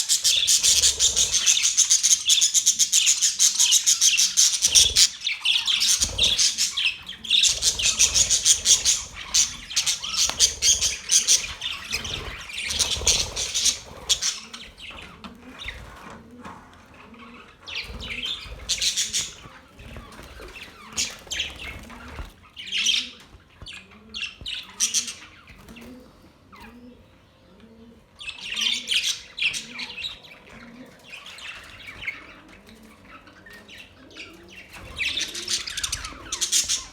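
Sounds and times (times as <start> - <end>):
budgerigars chirping and squawking: 0.0 - 36.9.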